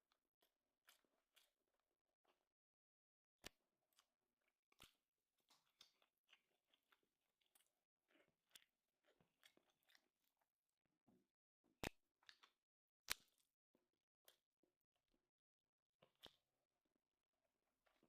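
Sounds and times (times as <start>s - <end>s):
soft chewing and crunching: 0.1s - 2.6s, 3.4s - 14.9s, 16.0s - 16.6s, 17.7s - 18.0s.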